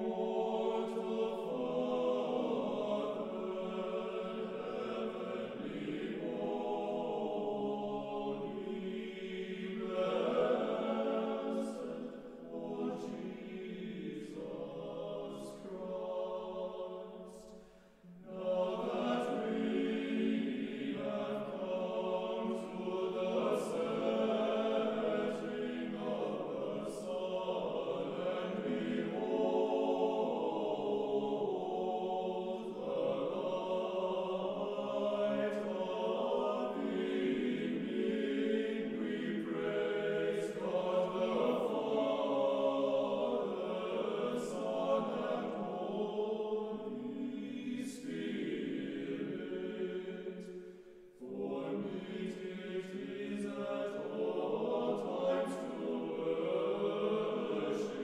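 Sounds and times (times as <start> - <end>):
choir singing unaccompanied chant: 0.0 - 58.0.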